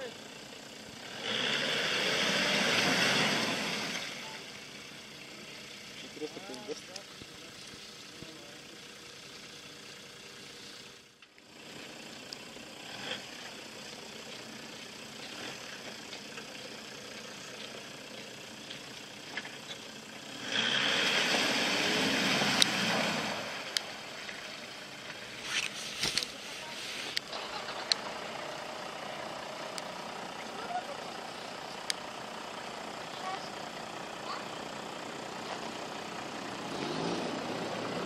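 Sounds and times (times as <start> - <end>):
car engine running and revving: 0.0 - 38.0.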